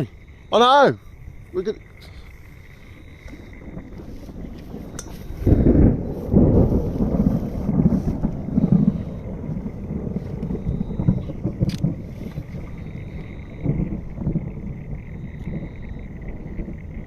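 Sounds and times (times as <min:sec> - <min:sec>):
gusty wind buffeting microphone: 0:00.0 - 0:17.0
low thunder rumbling: 0:00.0 - 0:17.0.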